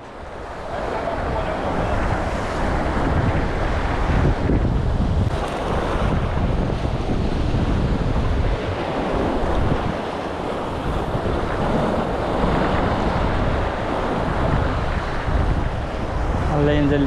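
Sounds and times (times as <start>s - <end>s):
waves splashing against concrete: 0.0s - 17.0s
wind buffeting microphone: 0.0s - 17.0s.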